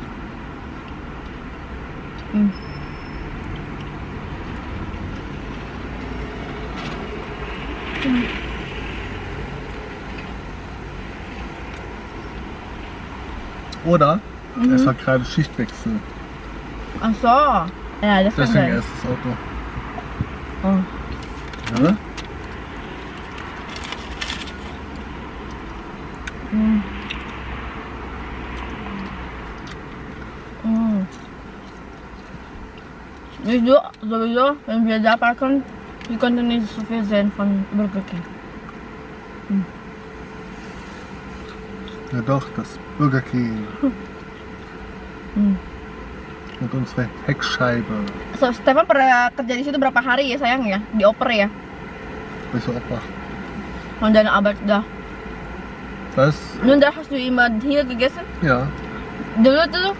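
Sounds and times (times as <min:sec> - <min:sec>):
vehicle rumble inside car: 0:00.0 - 0:59.9.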